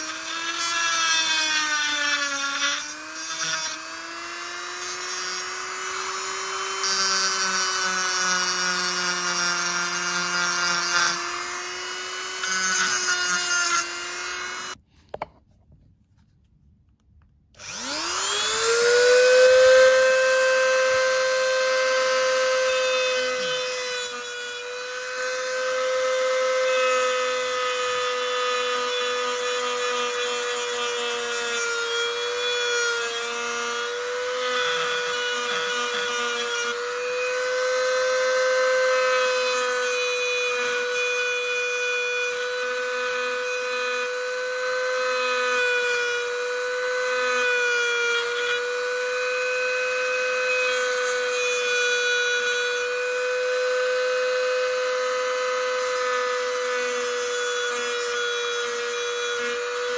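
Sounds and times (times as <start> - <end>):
rotary tool cutting steel: 0.0 - 14.8, 17.6 - 59.9.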